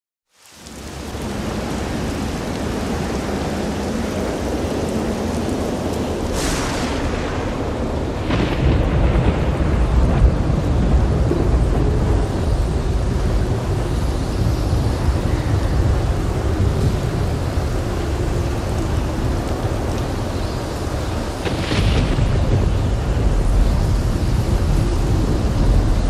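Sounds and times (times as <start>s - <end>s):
rain hiss: 0.3s - 26.0s
low thunder rumbling: 0.8s - 26.0s
thunderclap: 4.6s - 26.0s.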